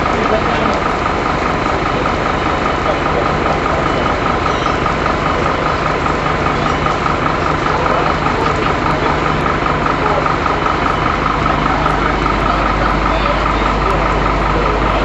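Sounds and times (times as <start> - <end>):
constant high whine: 0.0 - 15.0
fire engine running: 0.0 - 15.0.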